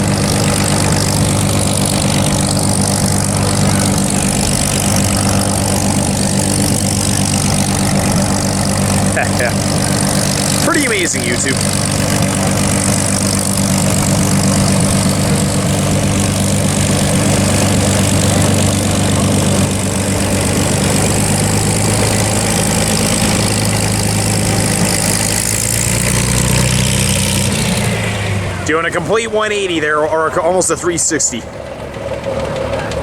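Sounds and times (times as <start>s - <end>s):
propeller plane engine running: 0.0s - 33.0s.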